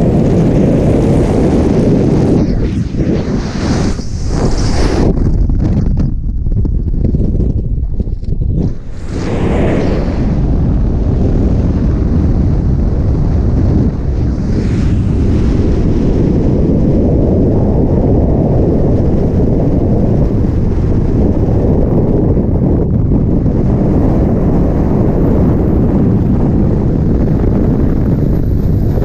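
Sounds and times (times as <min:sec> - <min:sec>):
wind roaring over microphone: 0:00.0 - 0:29.0.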